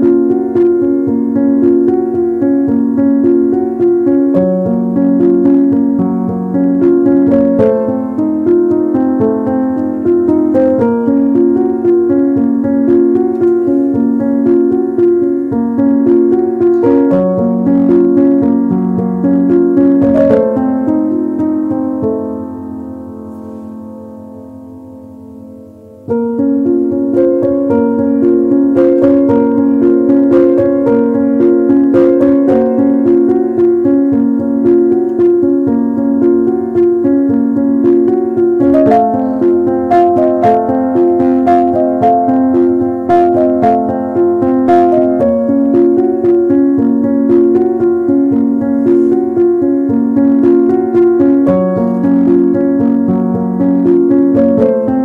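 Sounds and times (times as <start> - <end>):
gentle piano melody: 0.0 - 55.0.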